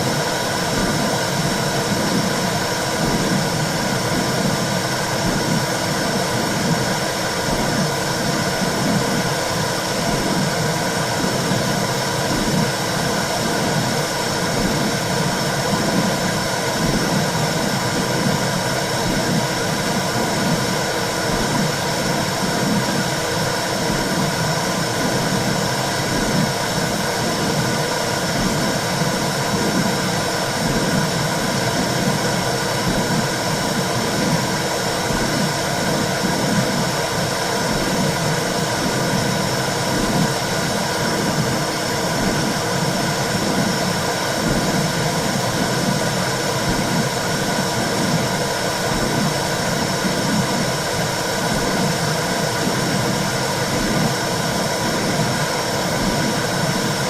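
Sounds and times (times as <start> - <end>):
rhythmic whooshing pulse: 0.0 - 57.0
steady rushing noise: 0.0 - 57.0.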